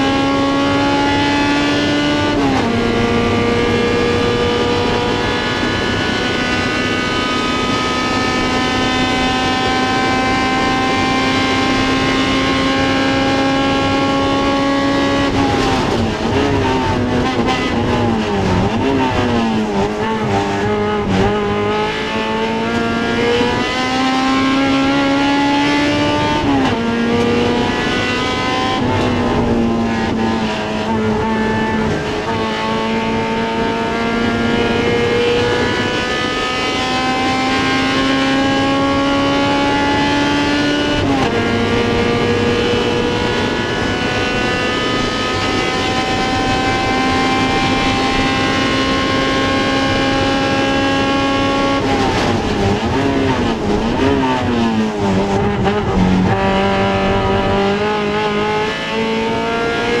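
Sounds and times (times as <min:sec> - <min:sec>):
race car engine revving: 0:00.0 - 1:00.0.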